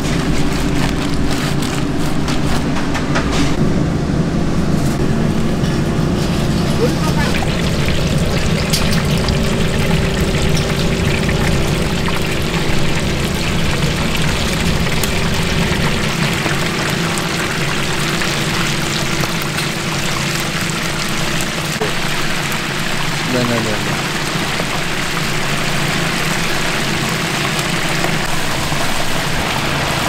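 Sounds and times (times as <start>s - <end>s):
oil sizzling and bubbling: 0.0s - 2.7s, 4.6s - 30.0s
steady low hum: 0.0s - 30.0s.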